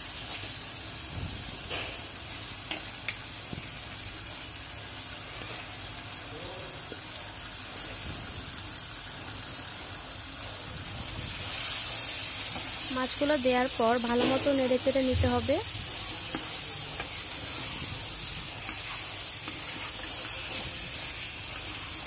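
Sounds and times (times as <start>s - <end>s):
masala sizzling in a pan: 0.0s - 22.0s.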